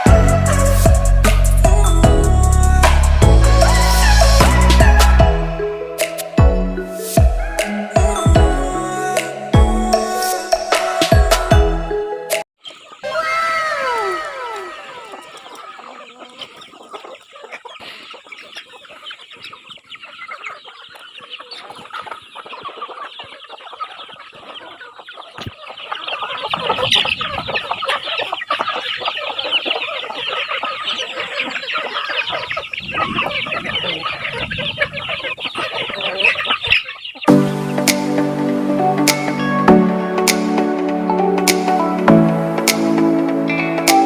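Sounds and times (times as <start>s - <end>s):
chickens clucking: 0.0s - 2.1s, 3.0s - 11.1s, 12.3s - 44.0s.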